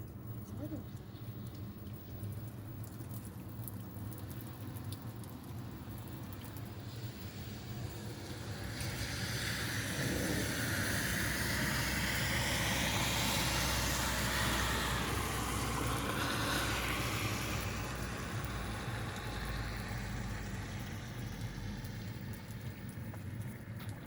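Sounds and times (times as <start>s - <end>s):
vehicle passing on wet road: 4.1s - 24.0s.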